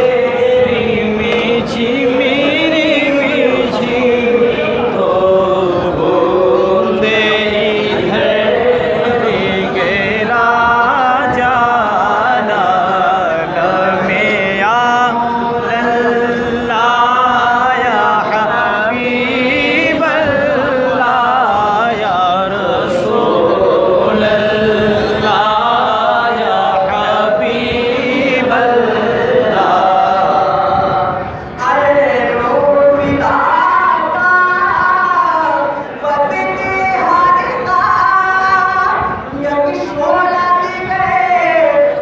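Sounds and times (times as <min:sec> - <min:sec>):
man singing through pa system: 0:00.0 - 0:42.0.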